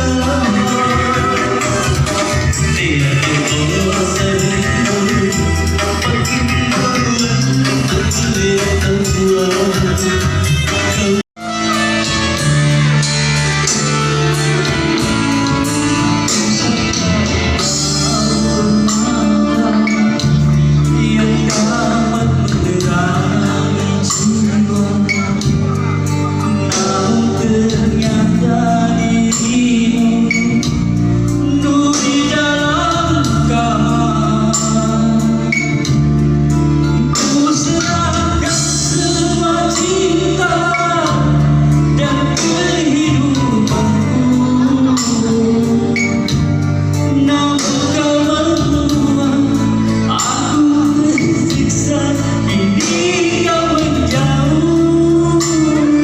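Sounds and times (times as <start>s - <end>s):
amplified band music: 0.0s - 56.0s
person singing: 0.0s - 56.0s.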